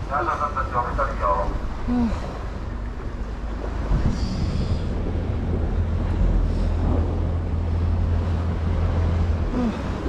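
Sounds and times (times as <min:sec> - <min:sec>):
boat engine humming: 0:00.0 - 0:10.0
wind on microphone: 0:01.6 - 0:10.0.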